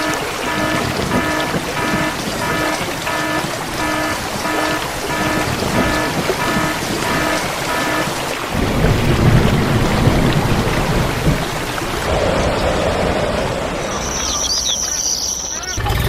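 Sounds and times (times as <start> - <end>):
thunder rumble: 0.0 - 15.5
heavy rain hissing: 0.0 - 15.8.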